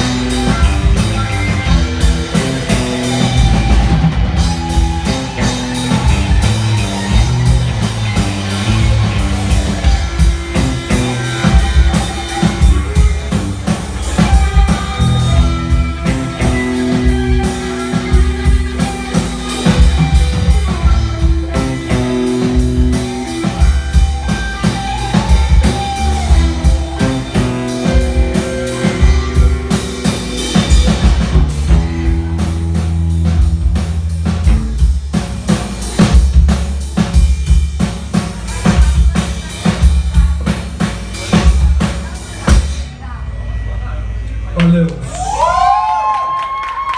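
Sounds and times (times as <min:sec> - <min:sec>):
drum kit beating: 0:00.0 - 0:43.2
rock band playing: 0:00.0 - 0:46.9.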